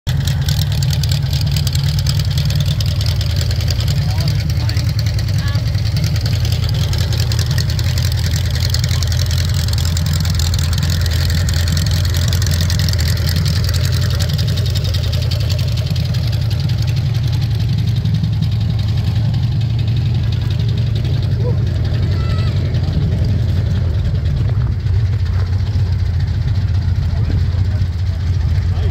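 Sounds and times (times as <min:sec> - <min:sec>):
car engine idling: 0:00.0 - 0:28.9.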